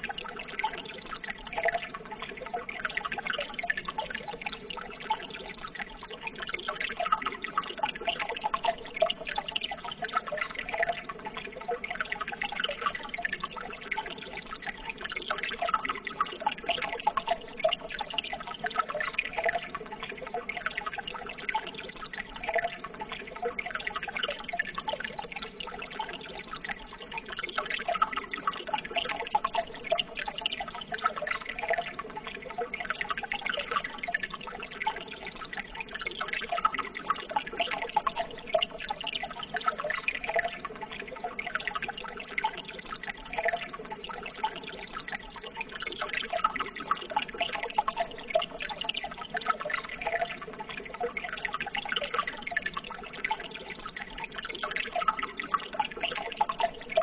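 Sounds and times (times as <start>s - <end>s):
running water trickling and babbling: 0.0s - 57.0s.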